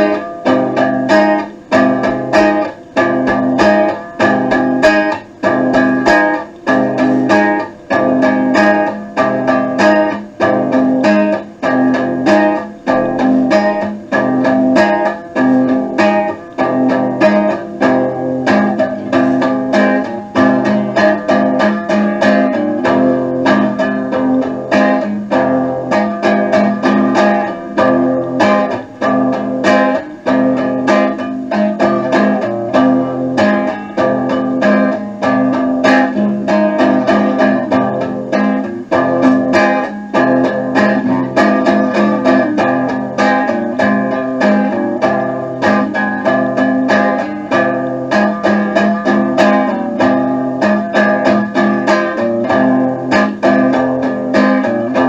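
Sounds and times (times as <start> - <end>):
guitar chords strummed: 0.0 - 55.0.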